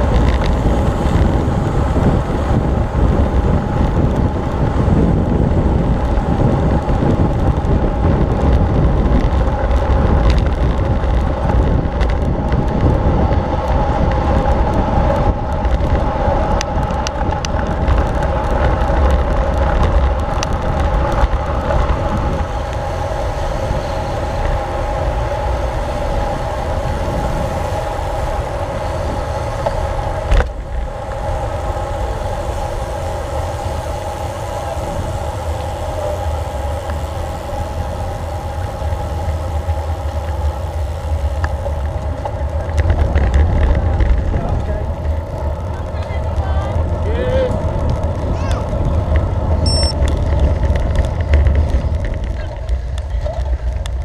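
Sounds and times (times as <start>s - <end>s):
bicycle tyre noise: 0.0s - 54.0s
wind buffeting microphone: 0.0s - 54.0s.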